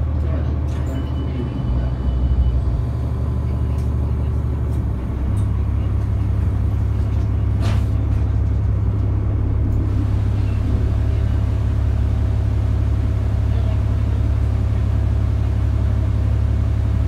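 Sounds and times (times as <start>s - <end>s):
bus diesel engine drone: 0.0s - 17.0s.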